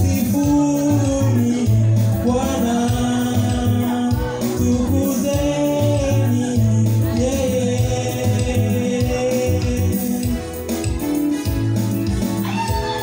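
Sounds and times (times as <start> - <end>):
man singing into a microphone: 0.0 - 11.4
amplified gospel accompaniment: 0.0 - 13.0.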